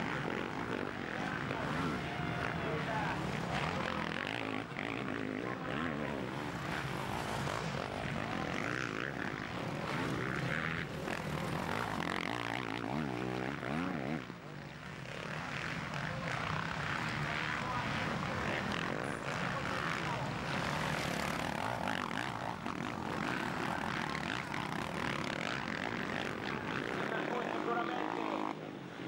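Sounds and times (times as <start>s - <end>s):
motocross bike engines revving: 0.0s - 29.0s.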